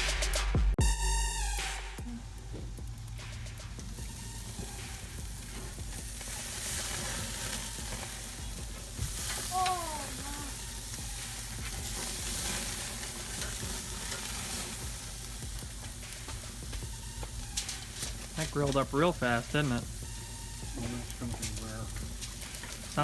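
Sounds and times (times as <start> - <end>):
steaks sizzling on a grill: 2.5 - 23.0.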